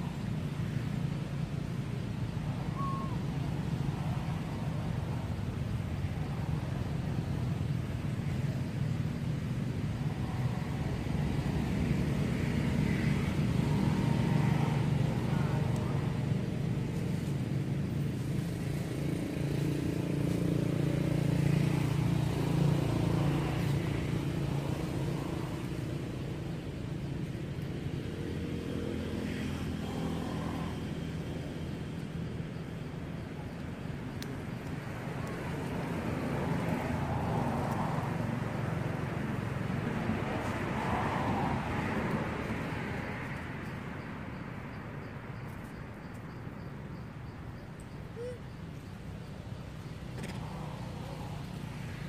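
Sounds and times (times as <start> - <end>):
vehicle engine rumble: 0.0 - 52.0.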